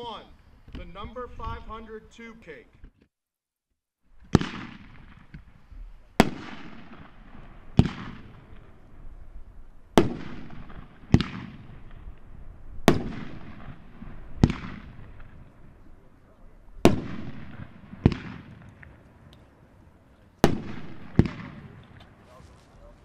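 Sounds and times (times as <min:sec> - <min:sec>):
fireworks bursts: 0:04.1 - 0:23.0.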